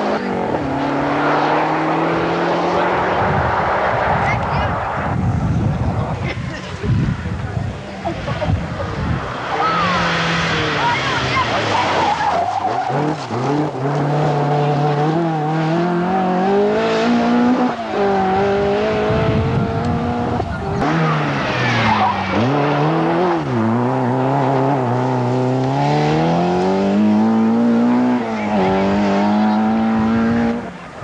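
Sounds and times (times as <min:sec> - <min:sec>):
rally car engine revving: 0:00.0 - 0:05.2, 0:07.1 - 0:31.0.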